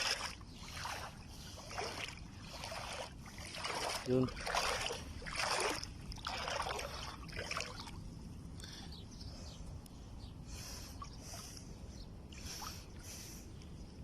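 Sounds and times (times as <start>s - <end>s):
small waves lapping and splashing: 0.0s - 9.0s, 10.5s - 13.6s.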